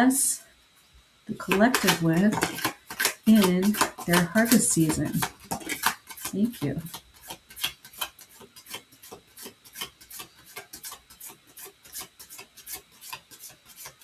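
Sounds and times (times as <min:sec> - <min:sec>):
cards being shuffled by hand: 0:01.3 - 0:14.0.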